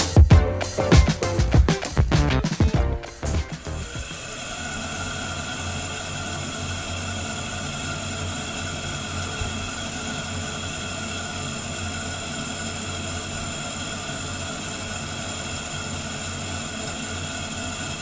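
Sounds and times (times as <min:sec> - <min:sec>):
exhaust fan droning: 0:02.2 - 0:18.0.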